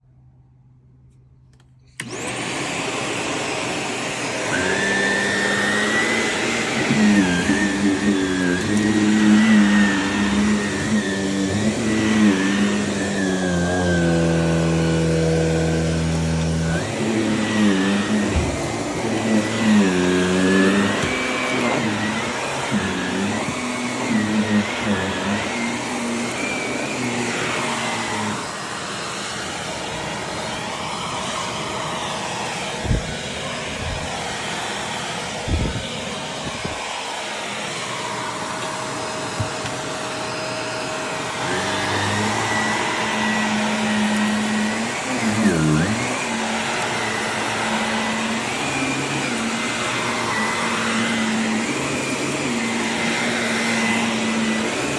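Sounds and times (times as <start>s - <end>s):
vacuum cleaner running: 1.5s - 54.9s.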